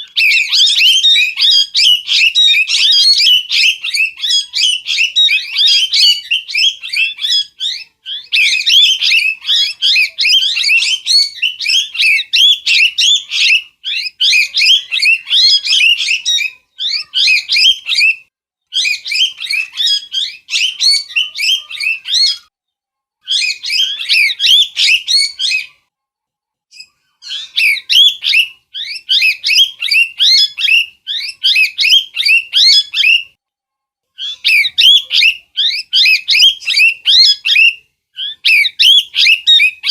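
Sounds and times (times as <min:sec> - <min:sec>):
parrot chirps and screeches: 0:00.0 - 0:22.5, 0:23.2 - 0:25.9, 0:26.8 - 0:33.3, 0:34.2 - 0:39.9.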